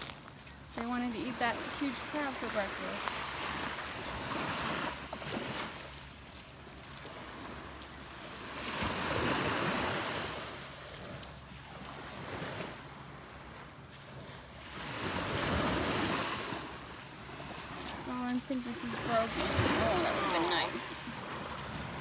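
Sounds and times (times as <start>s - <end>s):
surf washing up on beach: 0.0s - 22.0s.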